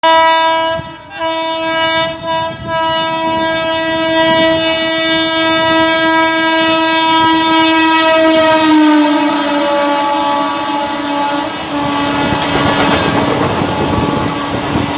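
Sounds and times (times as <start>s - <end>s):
locomotive air horn honking: 0.0s - 14.9s
train wheel noise: 0.4s - 14.9s.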